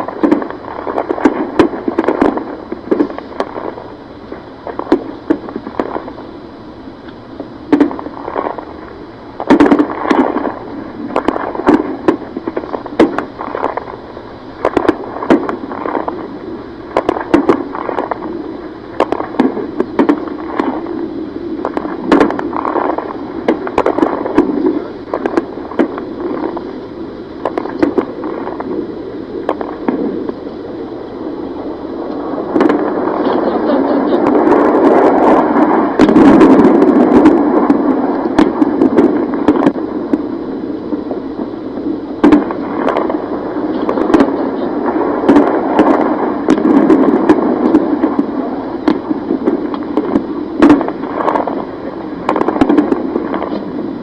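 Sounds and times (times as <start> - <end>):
distant gunfire: 0.0 - 3.9, 4.6 - 6.2, 7.7 - 8.8, 9.4 - 16.3, 16.9 - 21.0, 21.6 - 26.7, 27.4 - 28.8, 29.4 - 30.4, 32.5 - 40.3, 42.2 - 53.9
steady background noise: 0.0 - 54.0.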